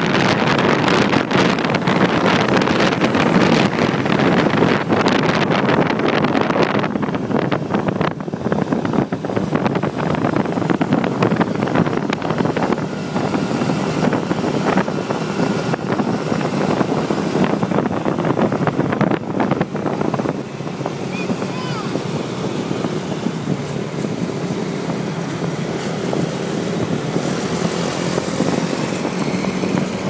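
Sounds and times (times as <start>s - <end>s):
motorbike engines cruising: 0.0s - 30.0s
wind buffeting microphone: 0.0s - 30.0s.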